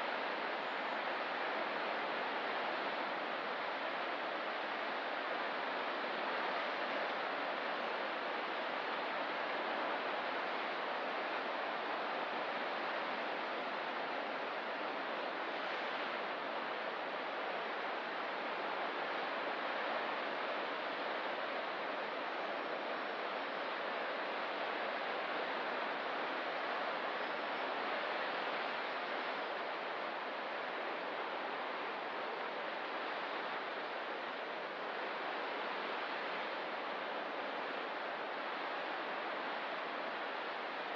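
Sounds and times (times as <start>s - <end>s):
ocean surf: 0.0s - 40.9s.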